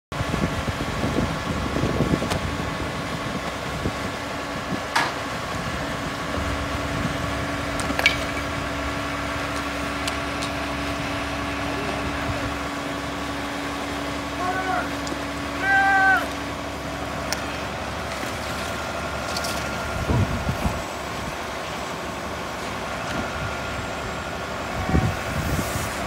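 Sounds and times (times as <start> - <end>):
fire engine running: 0.1 - 26.0.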